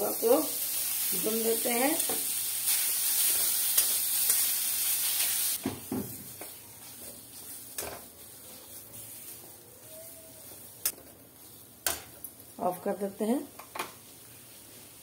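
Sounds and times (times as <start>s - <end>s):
food sizzling in a metal pan: 0.0s - 15.0s.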